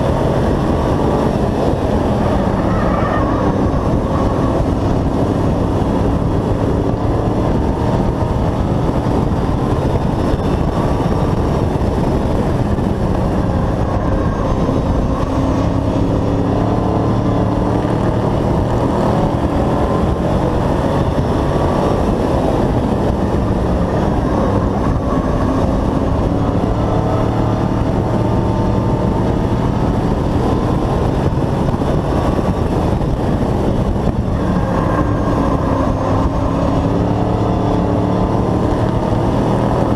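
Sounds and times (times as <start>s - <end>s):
race truck engine: 0.0s - 39.9s
steady rush of noise: 0.0s - 39.9s.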